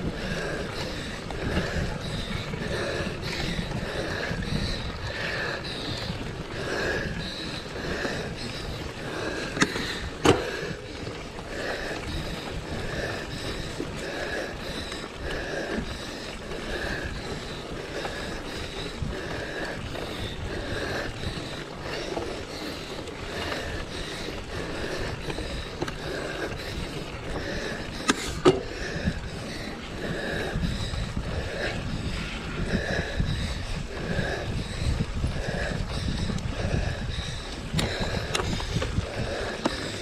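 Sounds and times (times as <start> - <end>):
wind and tyre rumble: 0.0 - 40.0.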